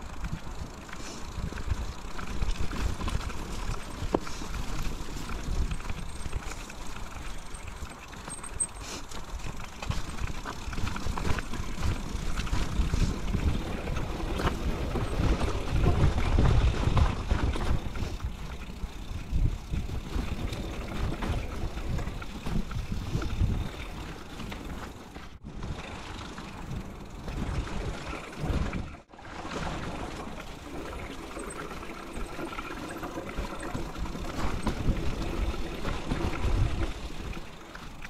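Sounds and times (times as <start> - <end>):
bike clicks and rattles: 0.0 - 38.0
bike tyre rumble on dirt: 0.0 - 38.0.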